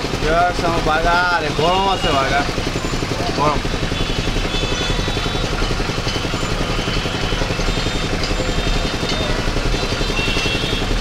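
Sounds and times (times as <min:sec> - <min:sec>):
engine idling: 0:00.0 - 0:11.0
street noise: 0:00.0 - 0:11.0.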